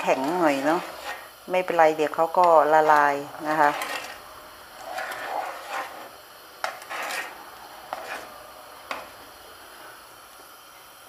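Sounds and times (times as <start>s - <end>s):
ladle stirring and scraping pan: 0.0s - 10.0s.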